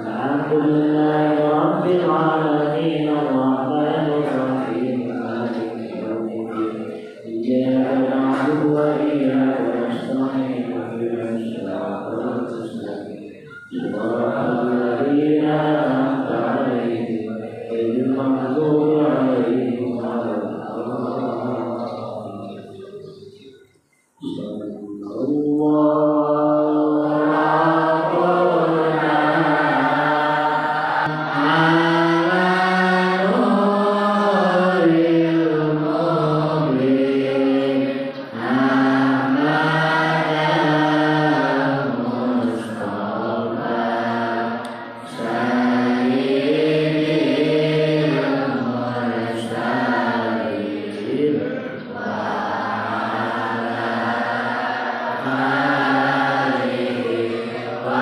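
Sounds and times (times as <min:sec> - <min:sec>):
man chanting into microphone: 0:00.0 - 0:23.6, 0:24.2 - 0:58.0.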